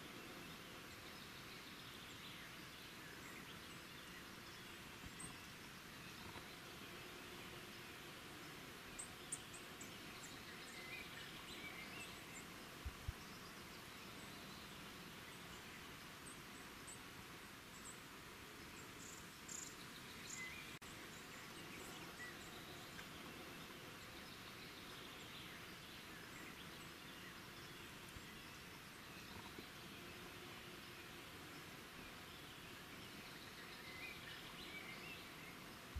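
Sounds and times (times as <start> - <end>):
bird and insect chirps: 0.0 - 35.9
steady background hiss: 0.0 - 35.9.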